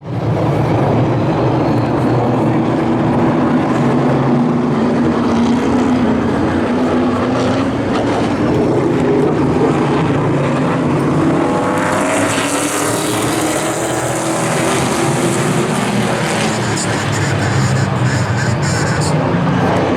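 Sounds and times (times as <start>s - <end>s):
stock car engines racing: 0.1s - 19.9s.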